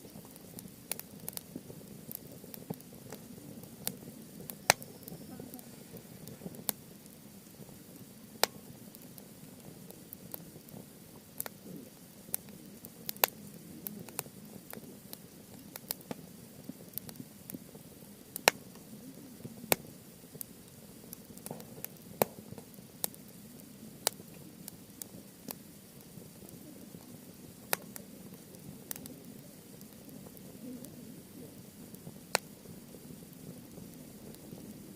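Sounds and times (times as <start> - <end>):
campfire crackling and popping: 0.0 - 34.9.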